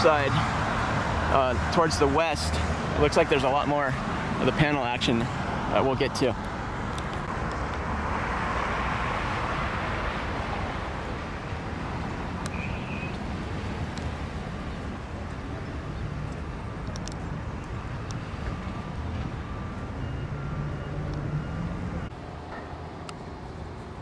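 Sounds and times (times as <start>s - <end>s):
vehicle traffic rumble: 0.0s - 24.0s.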